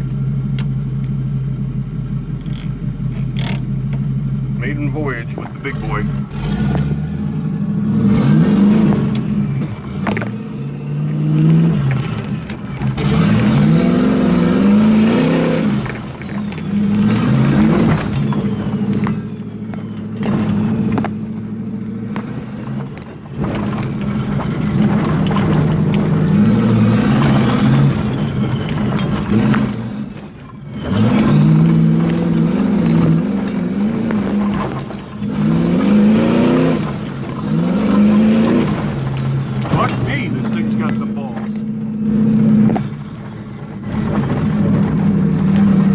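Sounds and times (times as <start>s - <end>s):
car engine accelerating hard: 0.0s - 45.9s.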